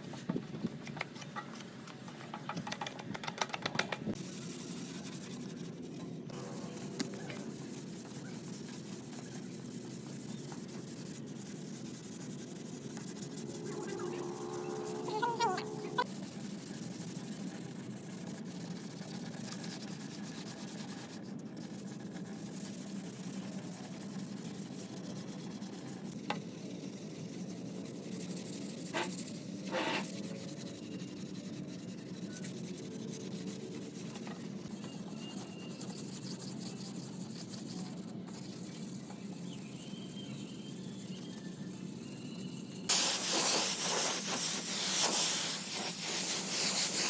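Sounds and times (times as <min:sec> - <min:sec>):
rubbing or sanding noise: 0:04.1 - 0:34.7, 0:35.4 - 0:39.4, 0:42.9 - 0:47.0.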